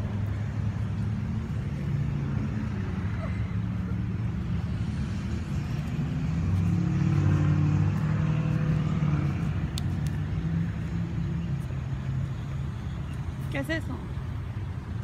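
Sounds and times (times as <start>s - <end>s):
passing vehicle engine hum: 0.0s - 15.0s
road traffic going by: 0.0s - 15.0s.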